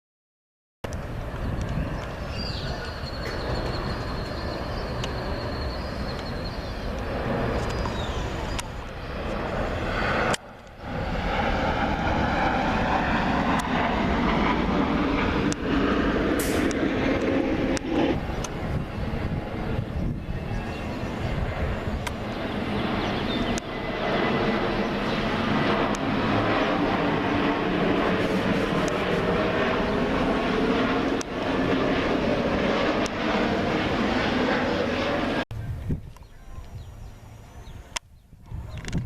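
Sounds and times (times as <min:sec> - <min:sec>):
jet airliner engines passing: 0:00.9 - 0:39.0.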